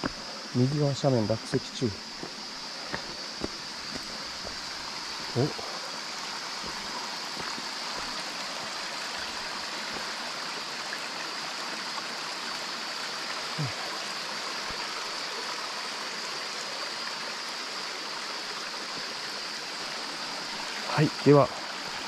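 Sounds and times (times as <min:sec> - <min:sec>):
stream rushing water: 0:00.0 - 0:22.0.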